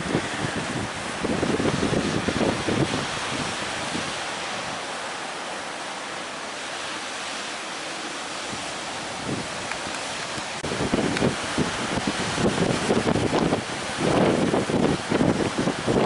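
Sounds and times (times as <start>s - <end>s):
ocean waves breaking: 0.0s - 16.0s
wind buffeting microphone: 0.0s - 16.0s.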